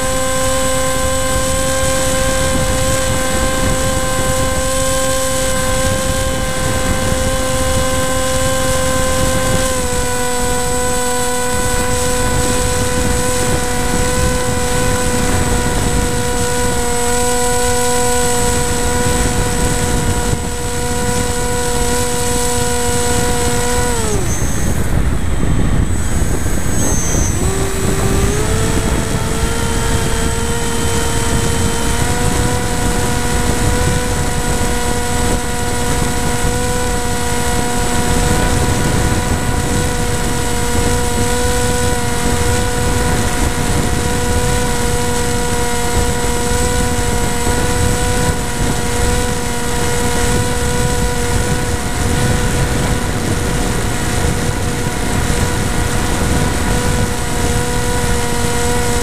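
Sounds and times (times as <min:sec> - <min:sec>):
model airplane motor whine: 0:00.0 - 0:59.0
wind rush: 0:00.0 - 0:59.0.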